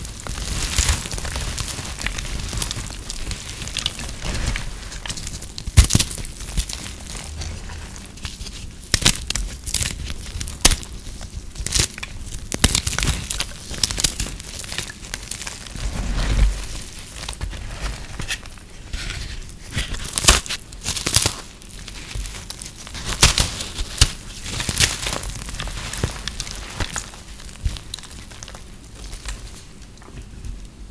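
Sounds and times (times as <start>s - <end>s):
brittle soap crunching: 0.0s - 30.8s.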